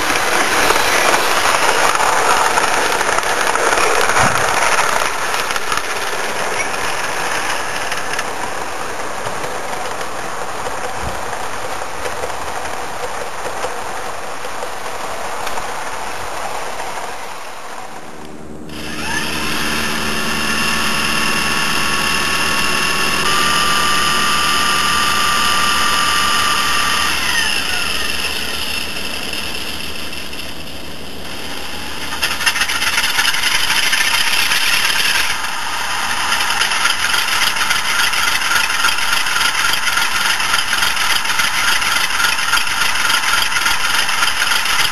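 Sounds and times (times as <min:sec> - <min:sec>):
model locomotive engine sound: 0:00.0 - 0:44.9
model train wheels whirring rattle: 0:00.0 - 0:44.9.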